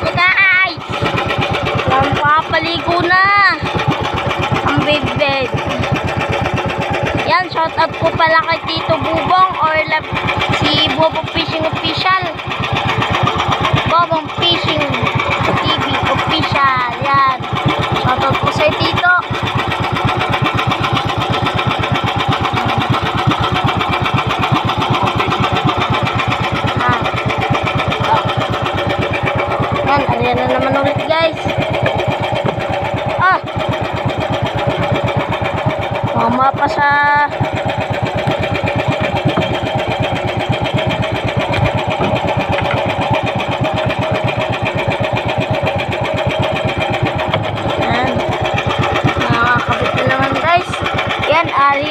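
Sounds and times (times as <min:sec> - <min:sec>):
small boat engine chugging: 0:00.0 - 0:51.9.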